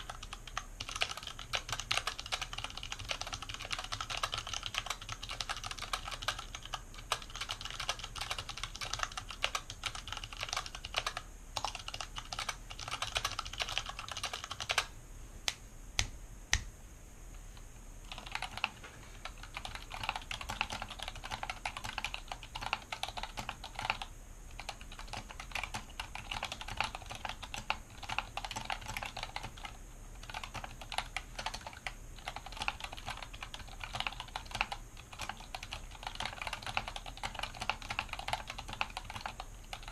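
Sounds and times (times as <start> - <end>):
fast typing on mechanical keyboard: 0.0 - 14.9, 18.1 - 39.9.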